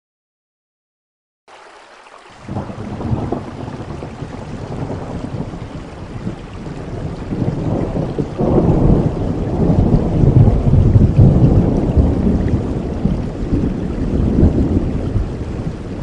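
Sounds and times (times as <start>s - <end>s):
falling rain: 1.5s - 16.0s
thunder rumbling: 2.4s - 16.0s.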